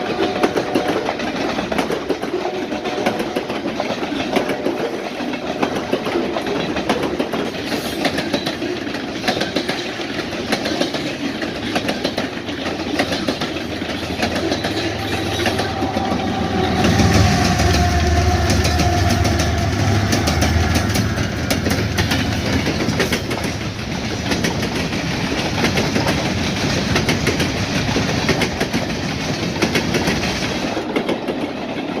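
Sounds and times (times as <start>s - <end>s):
train rumble: 0.0s - 32.0s
wheels clattering over rails: 0.2s - 32.0s.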